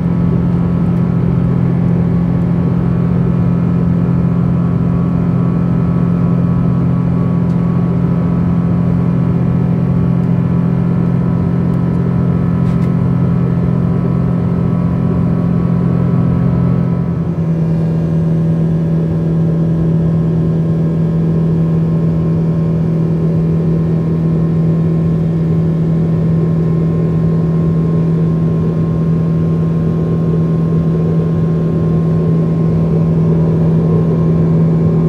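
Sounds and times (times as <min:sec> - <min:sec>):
constant low hum: 0:00.0 - 0:35.0
jet engine drone in cabin: 0:00.0 - 0:35.0.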